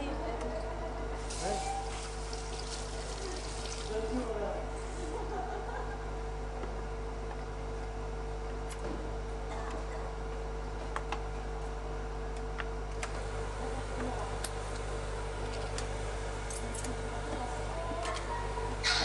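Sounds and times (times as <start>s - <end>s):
background hum: 0.0s - 19.0s.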